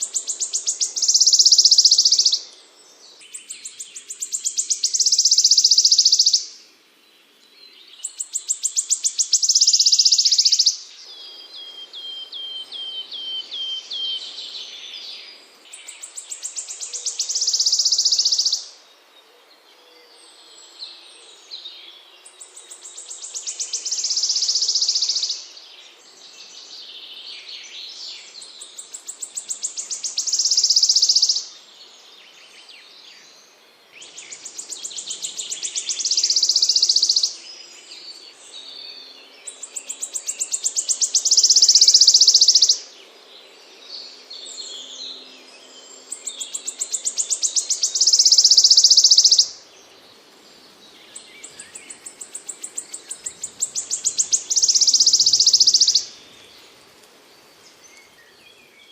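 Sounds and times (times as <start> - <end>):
songbird rapid trill: 0.0 - 6.6, 8.0 - 15.0, 15.7 - 18.8, 22.2 - 25.6, 27.5 - 31.7, 34.0 - 43.0, 44.4 - 58.9.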